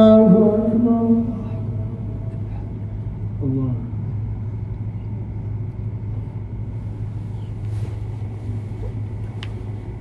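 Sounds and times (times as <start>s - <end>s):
low hum with rumble: 0.0s - 10.0s.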